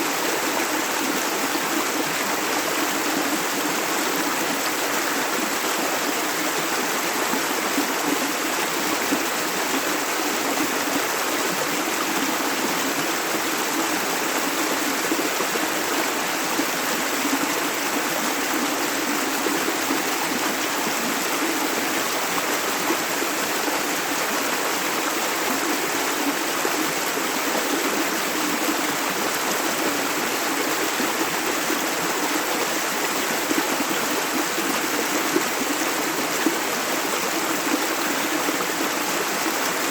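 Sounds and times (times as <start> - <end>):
river running over stones: 0.0 - 39.9.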